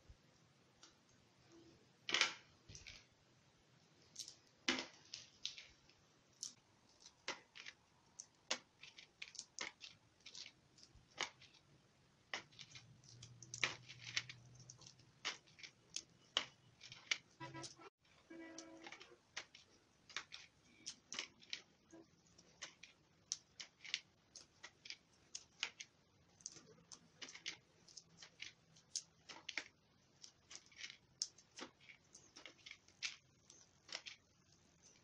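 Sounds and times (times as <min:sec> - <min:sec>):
dried fish crackling and snapping: 0:05.0 - 0:18.0, 0:18.6 - 0:35.0.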